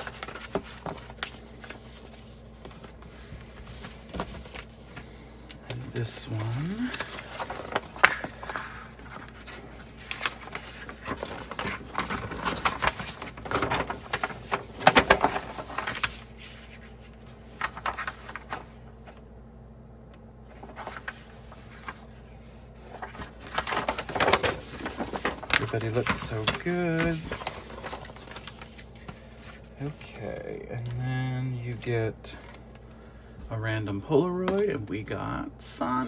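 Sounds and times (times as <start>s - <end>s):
paper poster rustling and crinkling: 0.0s - 19.2s, 20.5s - 35.3s.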